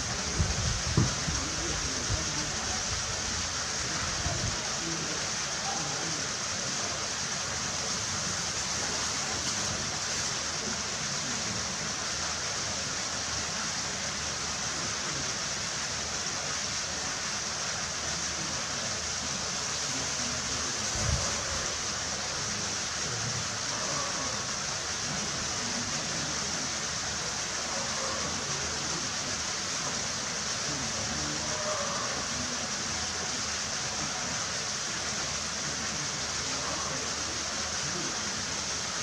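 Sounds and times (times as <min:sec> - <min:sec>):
running water pouring into pool: 0:00.0 - 0:39.0.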